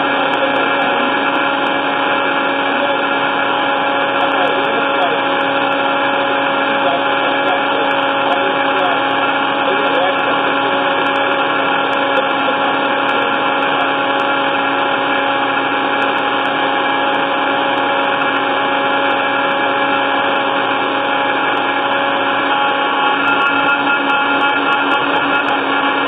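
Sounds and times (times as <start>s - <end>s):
blender motor running: 0.0s - 26.0s.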